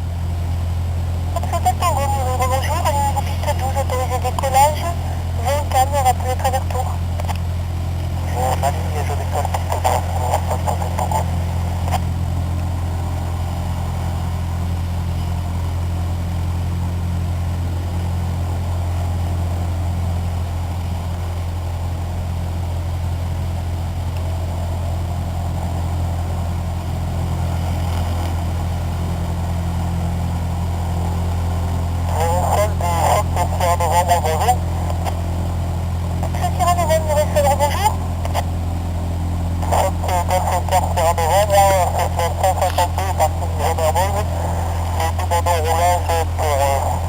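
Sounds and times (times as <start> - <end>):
aircraft engine and propeller drone: 0.0 - 47.0.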